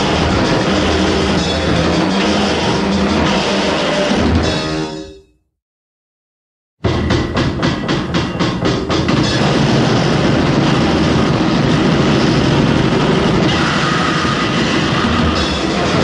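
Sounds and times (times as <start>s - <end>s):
distorted grindcore band roar: 0.0s - 5.1s, 6.8s - 16.0s.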